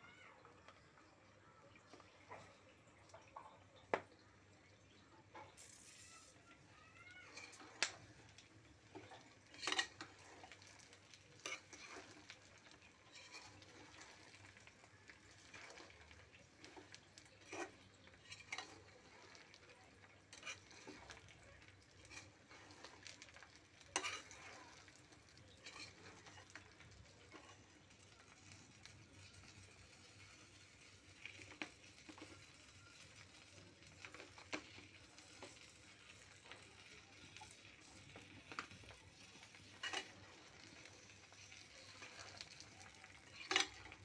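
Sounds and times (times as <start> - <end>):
utensil scraping and clinking in pan: 7.2 - 44.0.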